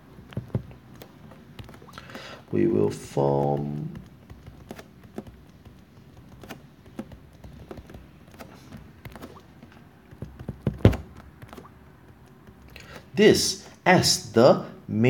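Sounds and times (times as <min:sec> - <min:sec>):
stylus tapping on tablet: 0:00.0 - 0:13.1.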